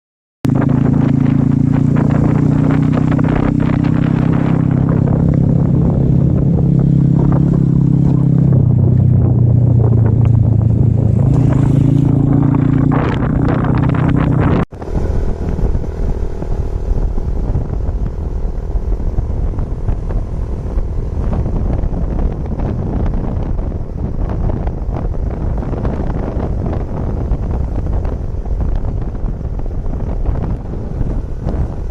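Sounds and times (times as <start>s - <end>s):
wind rushing over microphone: 0.4s - 31.9s
motorcycle engine running: 0.5s - 31.9s.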